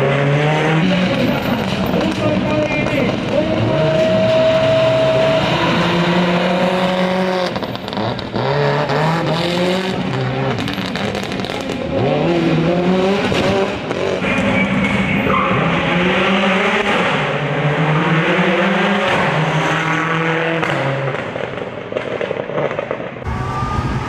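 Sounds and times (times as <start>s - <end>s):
rally car engine running hard: 0.0s - 21.4s.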